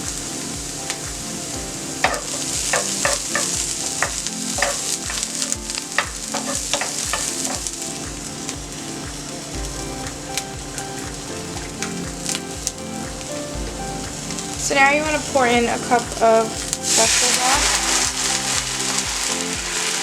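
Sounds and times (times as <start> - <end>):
onion sizzling in oil: 0.0 - 20.0.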